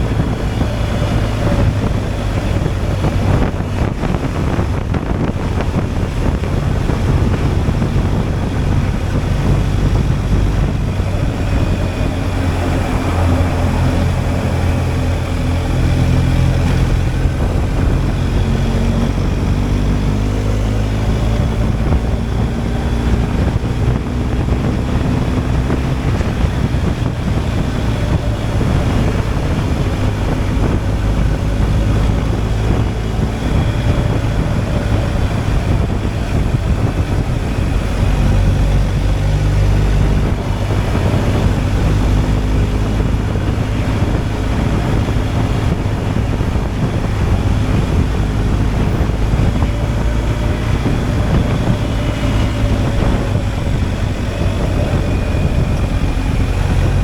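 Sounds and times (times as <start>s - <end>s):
motorcycle engine revving: 0.0s - 57.0s
wind on microphone: 0.0s - 57.0s.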